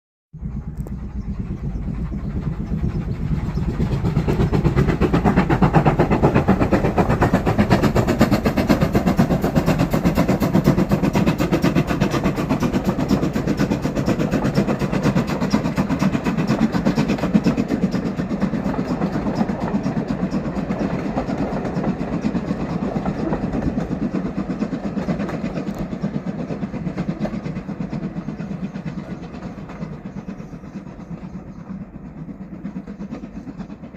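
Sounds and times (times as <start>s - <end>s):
steam train rumbling and clattering: 0.4s - 33.9s.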